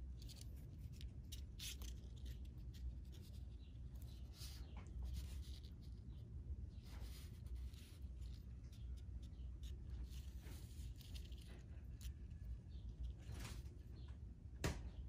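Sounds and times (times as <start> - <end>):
fishing line rubbing and rustling: 0.0 - 14.0
low steady hum: 0.0 - 15.0.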